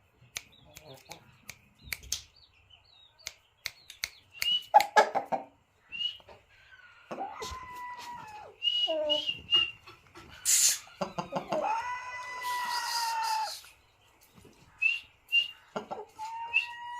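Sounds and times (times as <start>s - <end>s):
birds calling: 0.0s - 16.9s.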